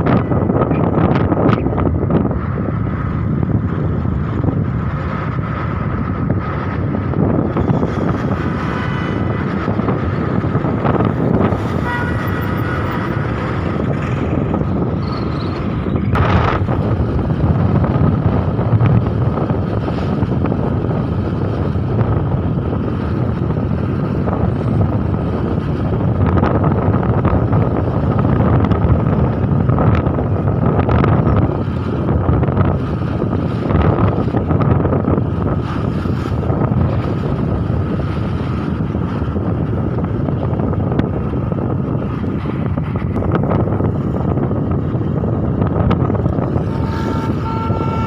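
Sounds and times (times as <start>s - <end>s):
vehicle road rumble: 0.0s - 48.0s
wind buffeting microphone: 0.0s - 48.0s.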